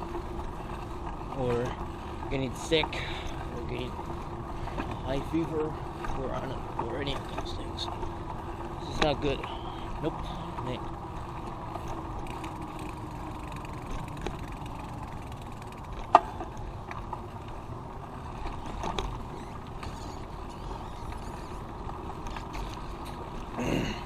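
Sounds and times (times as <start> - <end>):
bicycle rolling on road: 0.0 - 24.0.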